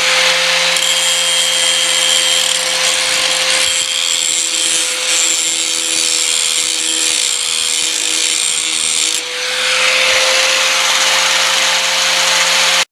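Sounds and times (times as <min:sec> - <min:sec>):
power grinder grinding steel: 0:00.0 - 0:12.9.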